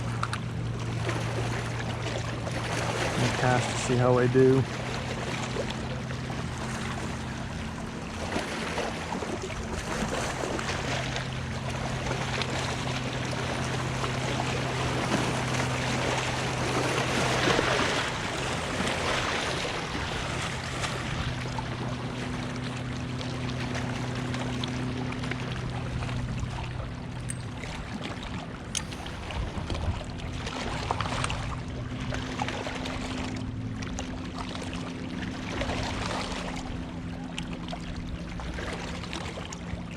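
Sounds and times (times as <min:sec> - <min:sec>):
choppy water: 0:00.0 - 0:39.9
motorboat engine droning: 0:00.0 - 0:39.9
wind: 0:00.0 - 0:39.9.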